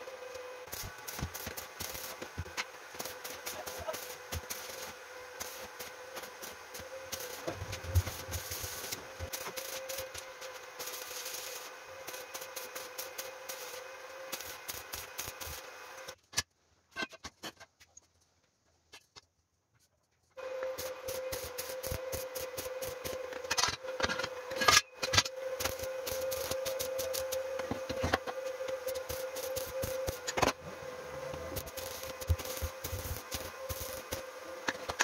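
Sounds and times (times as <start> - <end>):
welding arc crackling: 0.0 - 16.2, 20.4 - 35.0.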